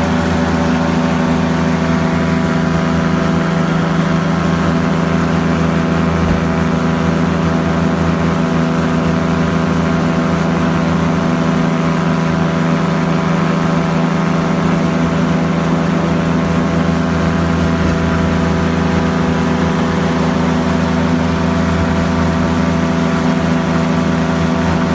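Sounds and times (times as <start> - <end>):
light aircraft engine and propeller: 0.0 - 24.9.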